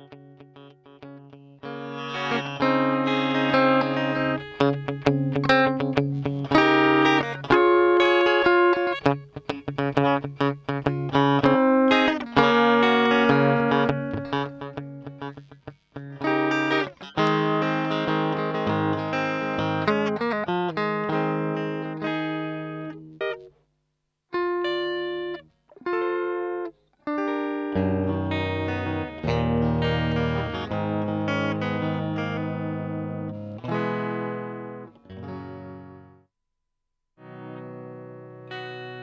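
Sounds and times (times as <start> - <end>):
electric guitar notes and chords: 0.0 - 23.5, 24.3 - 36.2, 37.2 - 39.0.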